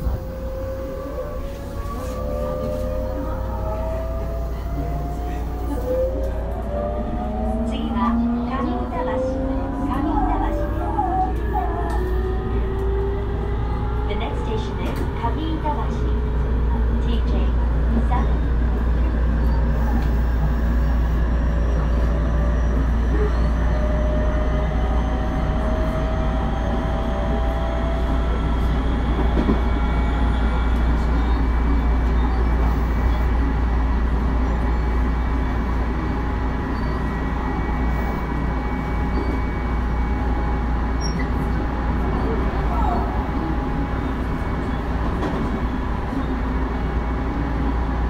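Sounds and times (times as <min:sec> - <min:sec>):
train running rumble: 0:00.0 - 0:48.0.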